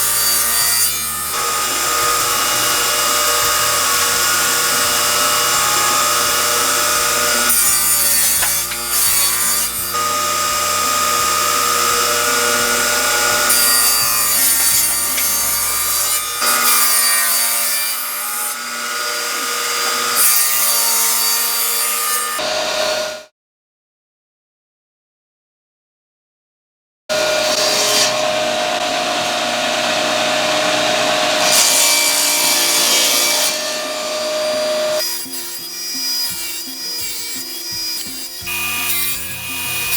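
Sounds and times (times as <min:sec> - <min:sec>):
table saw cutting wood: 0:00.0 - 0:23.3, 0:27.1 - 0:39.9.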